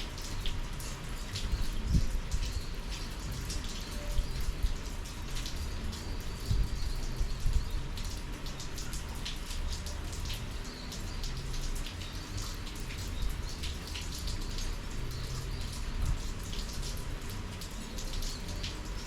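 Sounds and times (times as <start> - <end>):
raindrops ticking close by: 0.0 - 19.0
steady rain hiss: 0.0 - 19.0.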